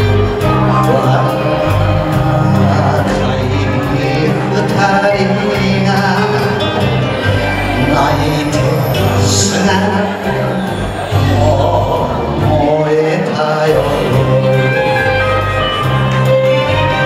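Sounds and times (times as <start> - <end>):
enka music over loudspeakers: 0.0 - 17.0.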